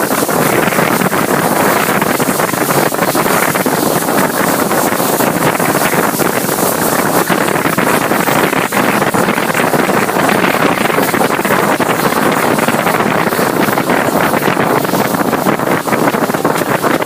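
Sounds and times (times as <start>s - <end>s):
moving train noise: 0.0s - 17.0s
wind buffeting microphone: 0.0s - 17.0s.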